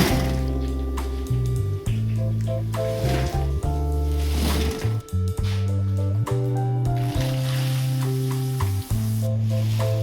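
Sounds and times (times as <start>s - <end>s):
background music with bass notes: 0.0s - 10.0s.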